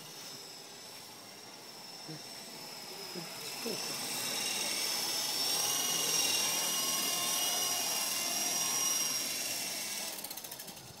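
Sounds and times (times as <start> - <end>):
model helicopter motor whine: 0.0 - 11.0.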